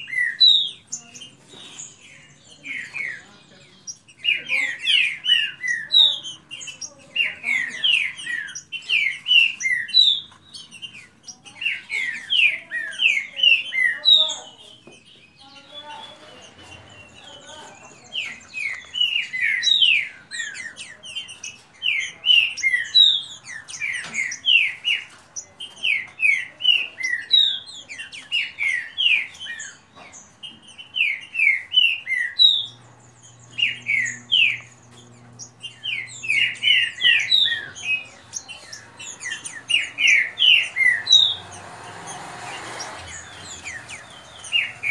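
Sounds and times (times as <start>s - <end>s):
birds singing: 0.0s - 44.9s.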